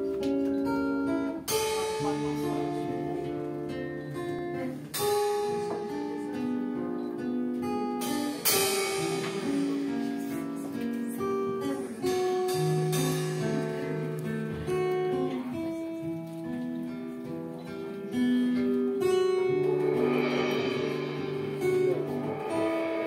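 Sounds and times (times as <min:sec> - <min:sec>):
drums: 0:00.0 - 0:23.0
strummed acoustic guitar: 0:00.0 - 0:23.0.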